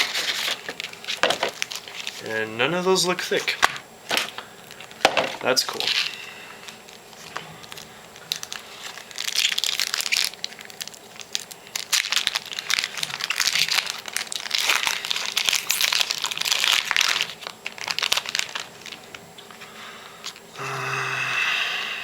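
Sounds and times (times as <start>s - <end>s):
card pack wrappers crinkling: 0.0s - 20.4s.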